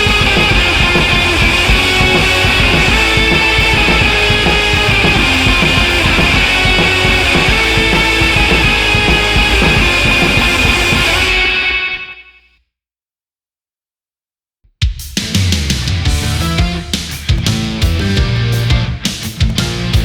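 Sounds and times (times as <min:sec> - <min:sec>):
rock music with drums and guitar: 0:00.0 - 0:12.0, 0:14.8 - 0:20.0.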